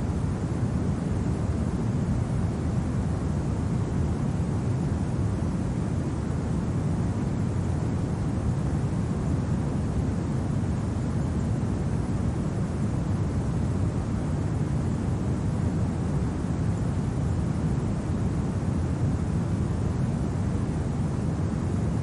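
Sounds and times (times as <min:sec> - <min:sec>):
low rushing wind: 0:00.0 - 0:22.0.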